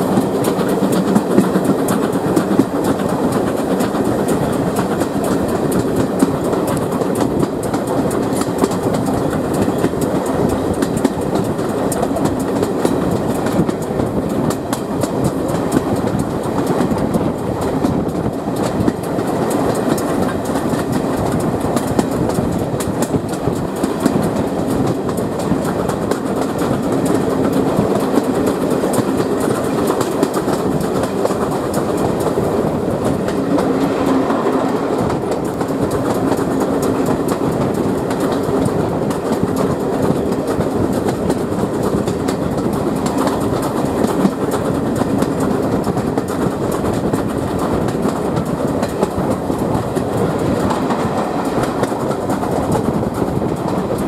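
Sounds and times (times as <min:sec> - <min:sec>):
train coaches rumbling: 0:00.0 - 0:54.0
wheels clicking over rail joints: 0:00.0 - 0:54.0.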